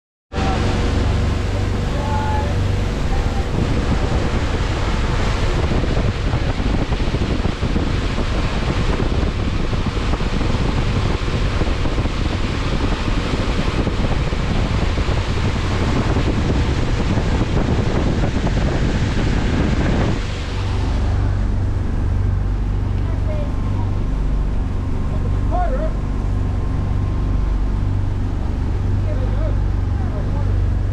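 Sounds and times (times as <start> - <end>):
low steady hum: 0.3 - 30.9
wind rushing over microphone: 0.3 - 30.9.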